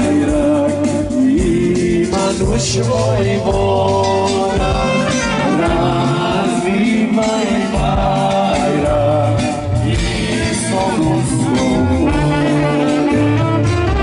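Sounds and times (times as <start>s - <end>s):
singing over instrumental music: 0.0s - 14.0s.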